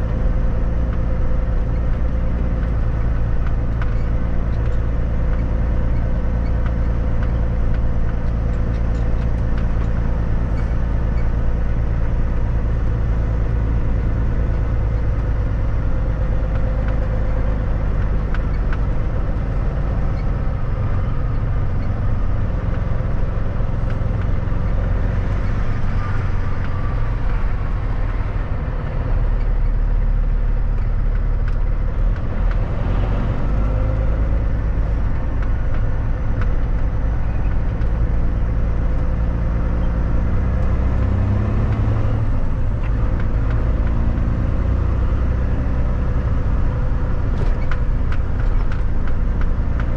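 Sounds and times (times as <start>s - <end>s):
road noise: 0.0s - 49.9s
truck engine drone: 0.0s - 49.9s.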